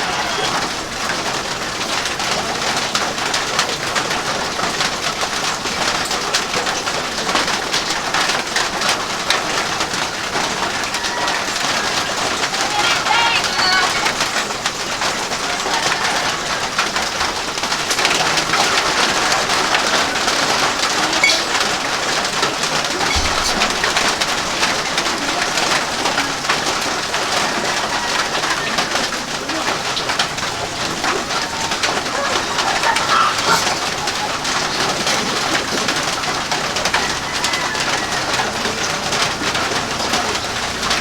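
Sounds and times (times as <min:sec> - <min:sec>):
birds calling: 0:00.0 - 0:41.0
rain pattering: 0:00.0 - 0:41.0.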